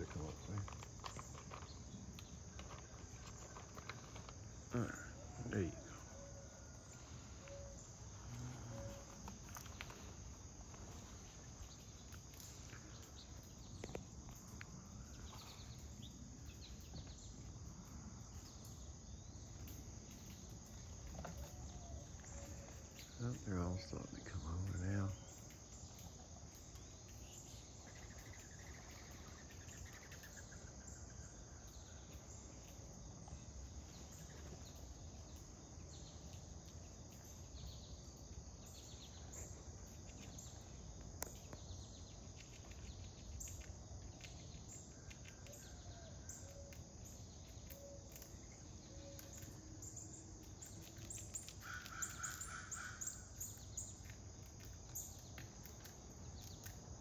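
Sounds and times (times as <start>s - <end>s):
bird calls: 0.0s - 56.8s
insect trill: 0.0s - 57.0s.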